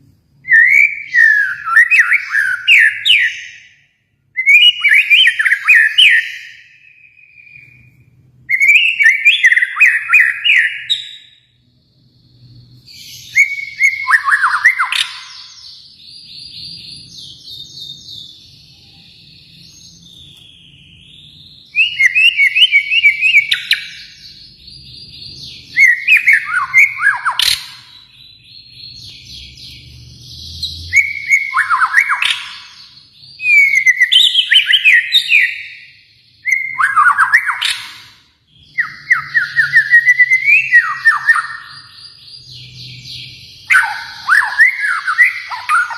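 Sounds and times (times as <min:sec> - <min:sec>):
shama singing whistled notes: 0:00.4 - 0:45.9.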